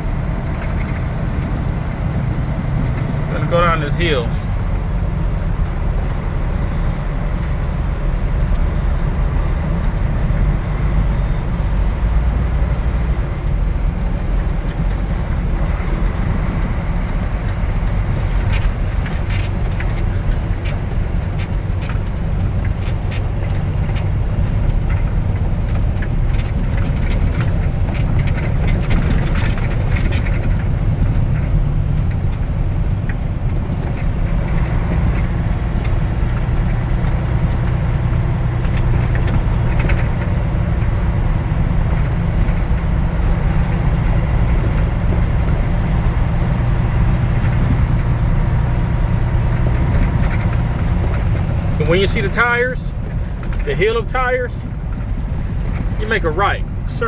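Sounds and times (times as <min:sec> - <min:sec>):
sharp clicks and rattles: 0:00.0 - 0:10.7, 0:14.2 - 0:57.0
truck engine rumbling: 0:00.0 - 0:57.0.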